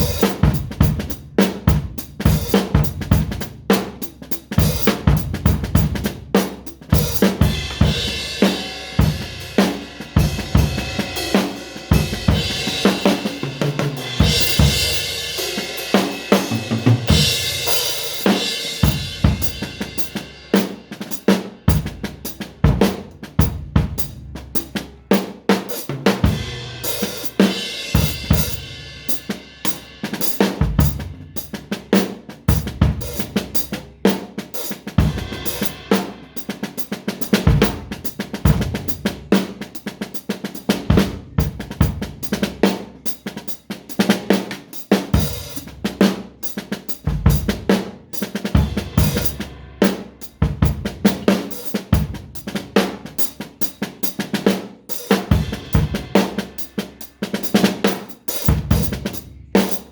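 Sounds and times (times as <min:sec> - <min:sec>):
drum kit playing: 0:00.0 - 0:59.9.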